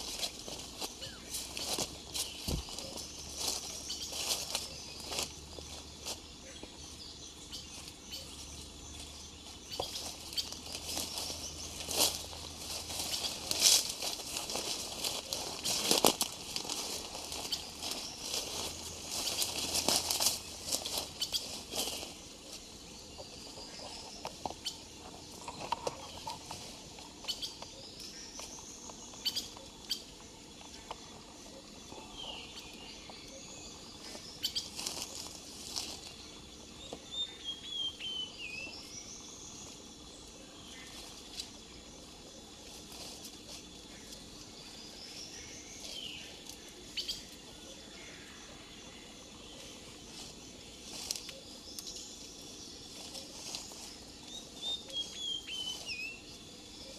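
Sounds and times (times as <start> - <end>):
birds whistling and chirping: 0.0 - 36.2, 36.8 - 39.8, 49.5 - 56.9.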